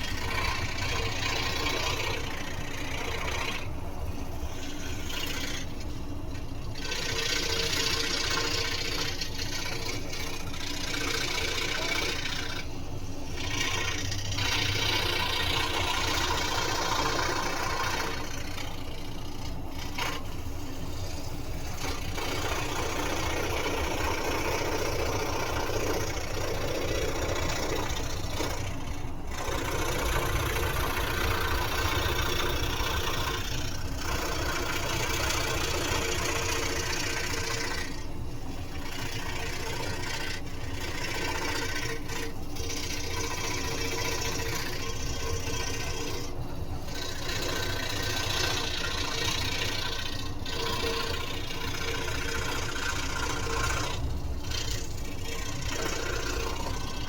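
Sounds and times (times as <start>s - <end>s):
scroll saw buzzing: 0.0s - 57.0s.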